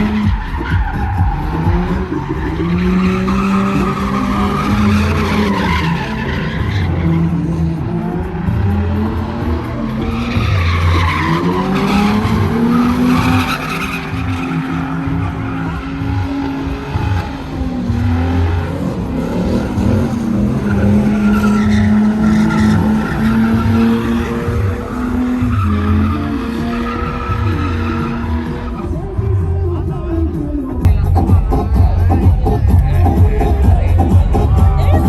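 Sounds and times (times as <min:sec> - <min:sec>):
truck engine high revs: 0:00.0 - 0:29.6
tires screeching on pavement: 0:00.0 - 0:30.6.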